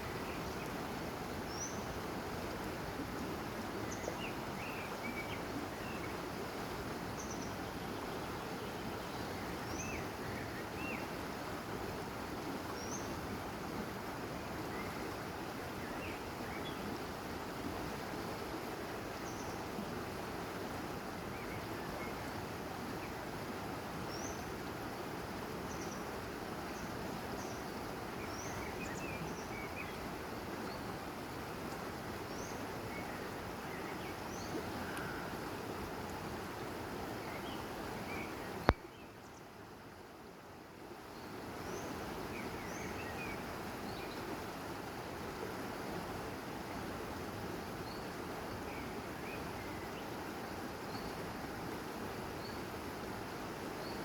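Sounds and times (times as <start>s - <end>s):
river water rushing: 0.0s - 54.0s
songbirds chirping: 0.0s - 54.0s.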